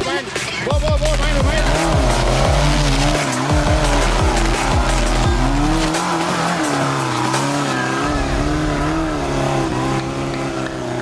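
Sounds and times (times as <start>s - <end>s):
buggy engine working hard: 0.0s - 11.0s.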